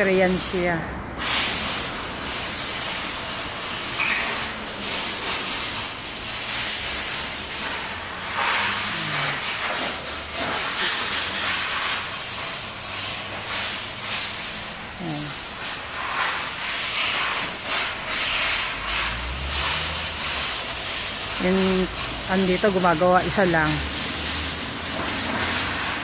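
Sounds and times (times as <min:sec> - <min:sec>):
compressed air hissing from hose: 0:00.0 - 0:26.0.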